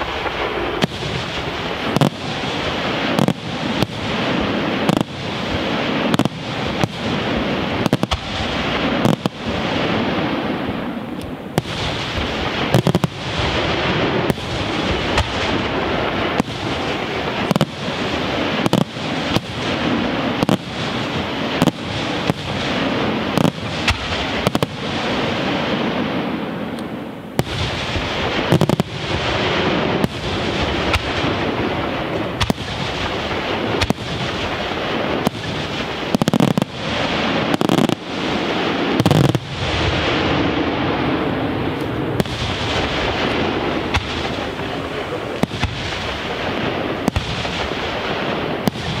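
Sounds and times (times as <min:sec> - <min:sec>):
fireworks bursting with echoes: 0:00.0 - 0:49.0.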